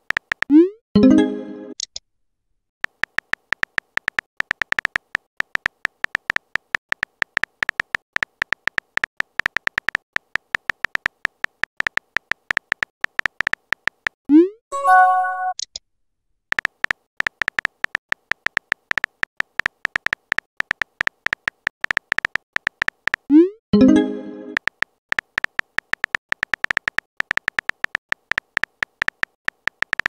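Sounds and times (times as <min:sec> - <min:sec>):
electronic typing ticks: 0:00.0 - 0:00.7, 0:02.8 - 0:14.5, 0:16.5 - 0:30.0.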